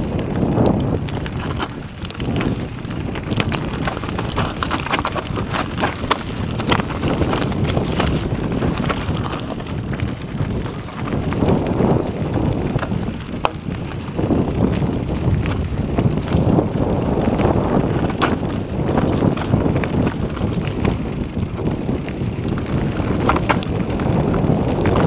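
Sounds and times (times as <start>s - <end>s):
bike rattling over rocky trail: 0.0s - 25.0s
wind rumble on microphone: 0.0s - 25.0s.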